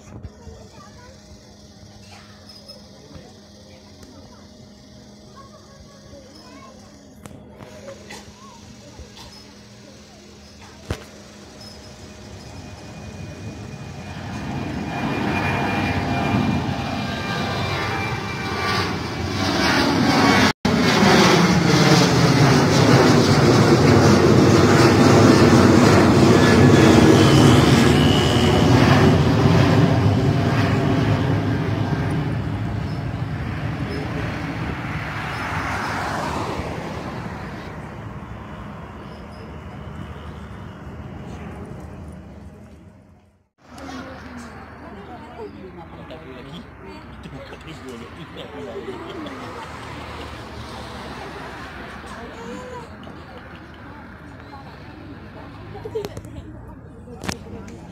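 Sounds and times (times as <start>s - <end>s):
jet engines rumbling: 0.0s - 57.9s.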